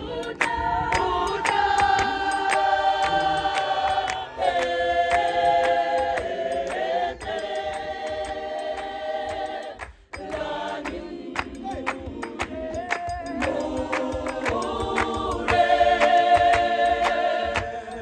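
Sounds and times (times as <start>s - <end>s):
choir singing a cappella: 0.0s - 18.0s
sharp hand claps: 0.2s - 17.8s.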